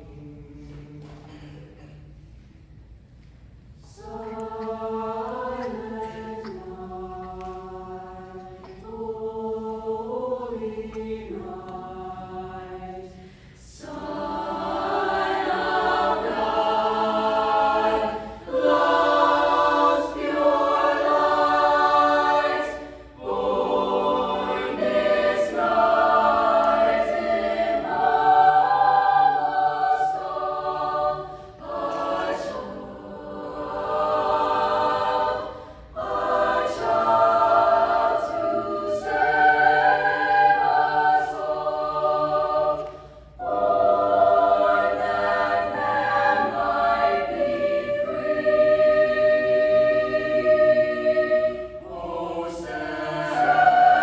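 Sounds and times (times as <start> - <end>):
choir singing: 0.0 - 2.0, 3.8 - 54.0.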